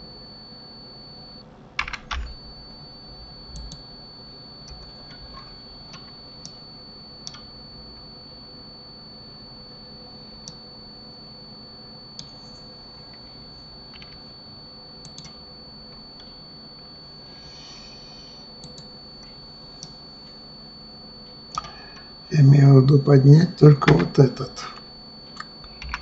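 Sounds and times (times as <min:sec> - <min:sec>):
steady high whine: 0:00.0 - 0:26.0.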